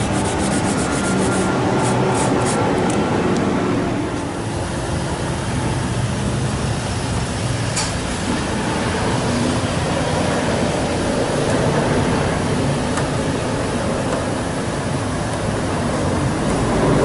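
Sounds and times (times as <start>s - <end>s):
rumbling machine drone: 0.0s - 17.0s.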